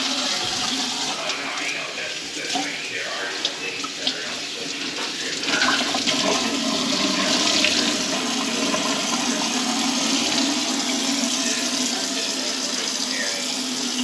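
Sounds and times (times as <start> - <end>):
water running into sink: 0.0 - 14.0.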